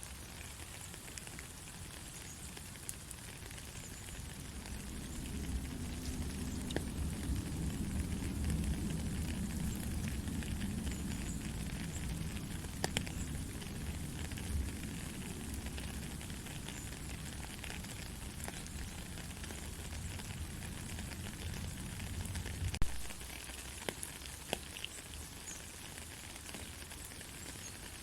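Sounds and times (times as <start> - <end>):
raindrop tick: 0.0 - 28.0
soft steady rain: 0.0 - 28.0.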